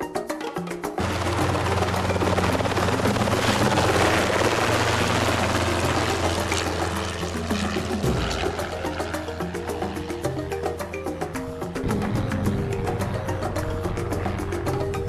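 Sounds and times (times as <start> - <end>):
background music: 0.0 - 15.0
helicopter engine and rotor: 0.2 - 15.0
low hum: 1.0 - 15.0.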